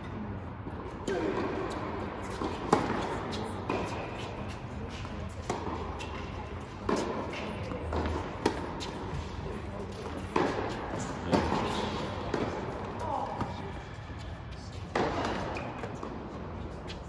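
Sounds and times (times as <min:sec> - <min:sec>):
ball bouncing on court: 0:01.1 - 0:13.6, 0:14.8 - 0:16.1
tennis racket hitting ball: 0:01.1 - 0:16.2.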